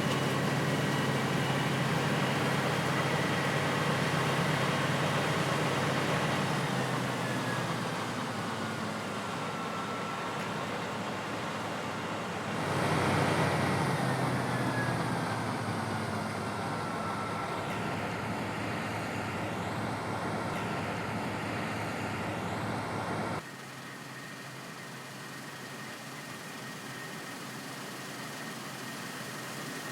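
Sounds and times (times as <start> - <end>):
combine harvester running: 0.0 - 29.9
faint machine whine: 0.0 - 29.9.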